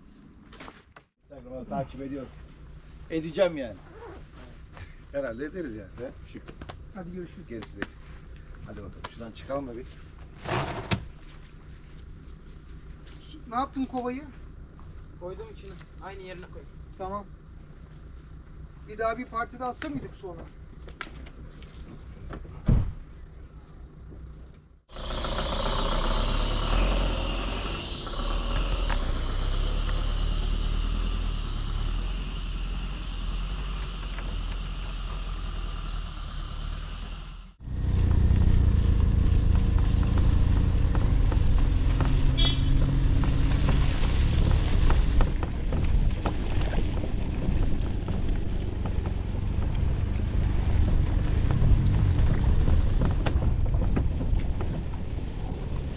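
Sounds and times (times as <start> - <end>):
vehicle engine rumble: 1.1 - 55.9
road and wind noise: 1.5 - 55.9.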